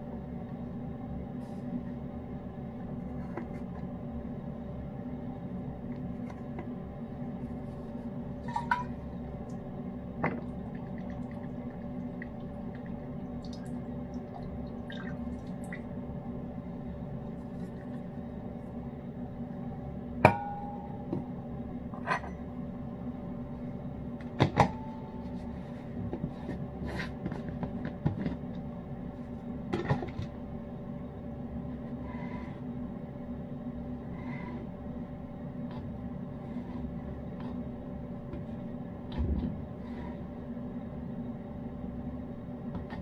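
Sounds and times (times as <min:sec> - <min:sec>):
room appliance humming: 0:00.0 - 0:43.0.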